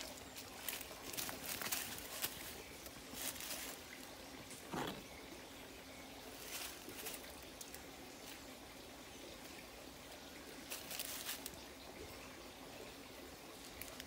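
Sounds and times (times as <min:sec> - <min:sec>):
creek trickling: 0:00.0 - 0:14.0.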